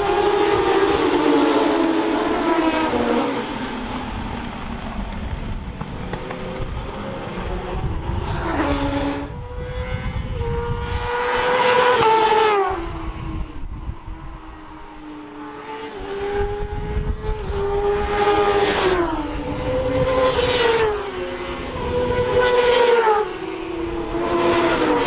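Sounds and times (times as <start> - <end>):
racing motorcycles passing: 0.0 - 25.0.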